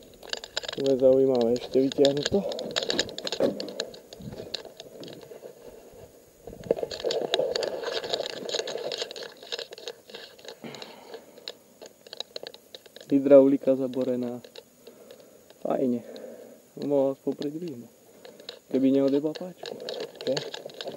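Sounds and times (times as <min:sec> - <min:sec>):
twigs snapping: 0:00.0 - 0:05.5, 0:06.4 - 0:20.9
twigs brushing and scraping: 0:00.0 - 0:16.2, 0:16.8 - 0:20.9.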